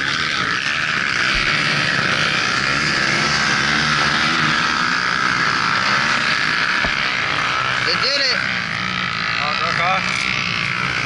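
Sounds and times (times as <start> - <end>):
quad engines running: 0.0 - 11.0.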